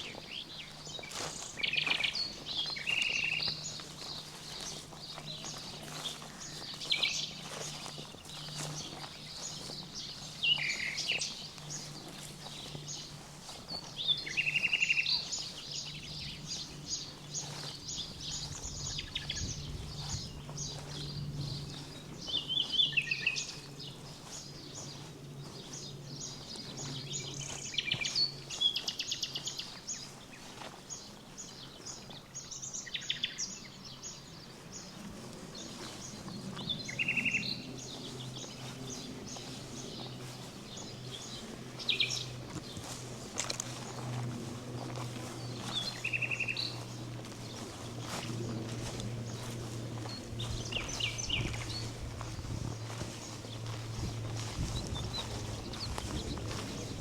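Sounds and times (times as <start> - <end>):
songbirds trilling: 0.0 - 57.0.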